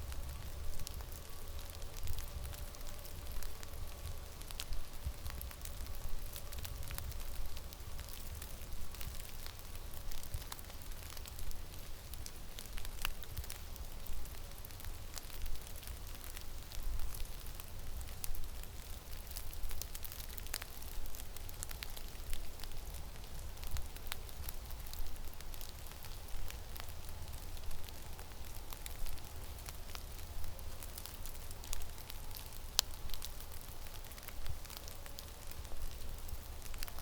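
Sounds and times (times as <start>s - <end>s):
sharp ticks and crackles: 0.0s - 37.0s.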